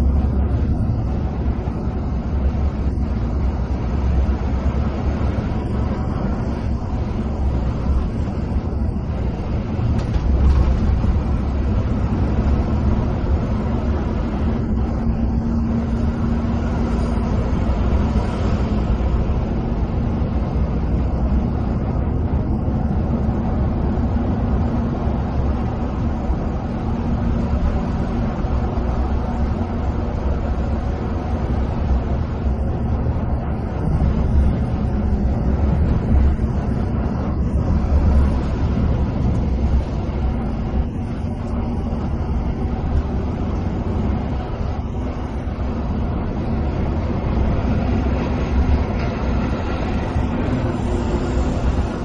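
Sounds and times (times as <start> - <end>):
bus engine drone: 0.0 - 52.0
tyre and road noise: 0.0 - 52.0.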